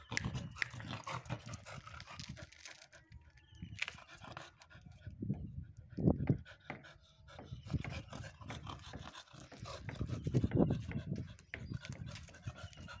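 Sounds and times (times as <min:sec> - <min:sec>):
puppy panting: 0:00.0 - 0:03.0, 0:03.8 - 0:13.0.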